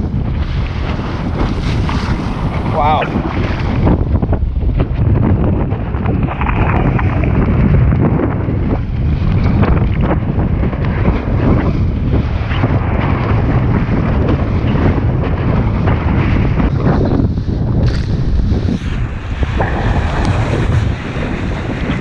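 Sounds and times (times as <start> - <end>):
water rushing along a hull: 0.0 - 22.0
wind buffeting microphone: 0.0 - 22.0.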